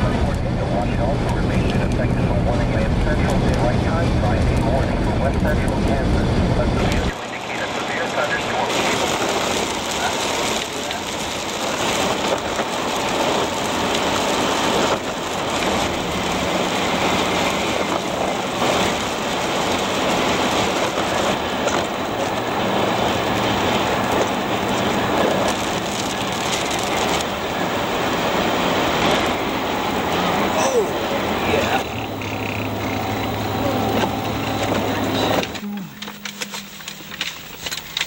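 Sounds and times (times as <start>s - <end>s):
road and tyre noise: 0.0s - 38.0s.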